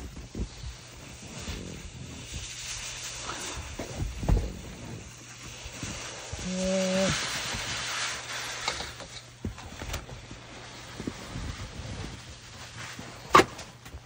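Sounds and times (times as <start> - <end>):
snow sliding down plastic sheet: 0.0 - 14.0.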